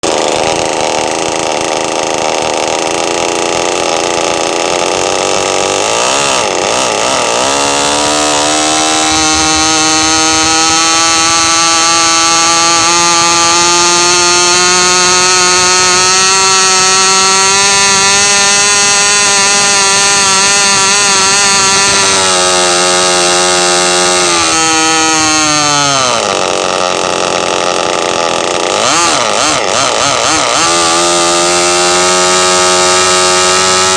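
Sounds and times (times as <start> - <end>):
model engine high whine: 0.0 - 33.9.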